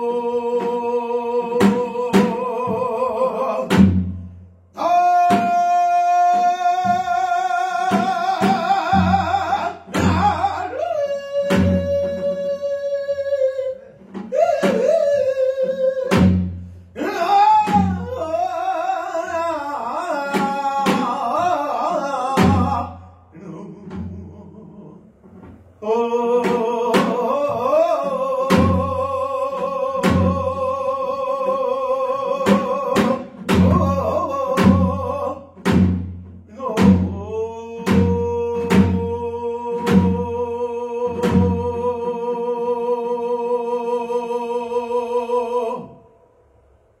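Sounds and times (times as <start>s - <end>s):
person singing with heavy vibrato: 0.0s - 25.2s, 25.8s - 35.8s, 36.4s - 46.4s
barrel drum strokes: 0.5s - 4.4s, 5.0s - 25.8s, 26.4s - 42.2s.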